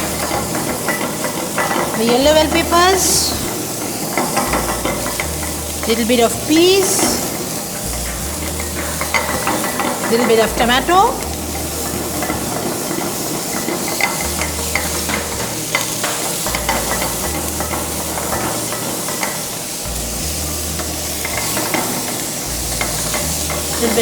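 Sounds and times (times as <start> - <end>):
utensil clicking against pan: 0.0 - 24.0
vegetables sizzling in hot oil: 0.0 - 24.0.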